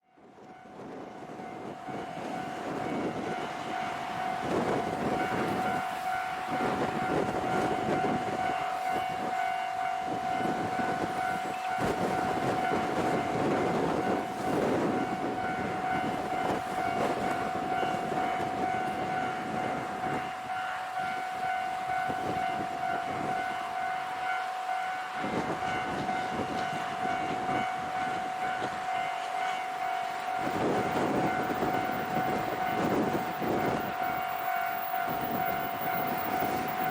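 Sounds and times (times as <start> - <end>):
level-crossing warning bell ringing: 0.0 - 36.9
train rumbling: 0.3 - 36.9.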